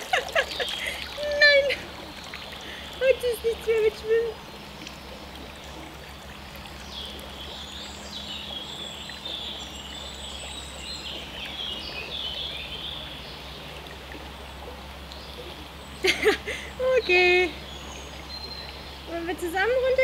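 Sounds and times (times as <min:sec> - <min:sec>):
birds chirping: 0:00.0 - 0:20.0
stream water flowing: 0:00.0 - 0:20.0.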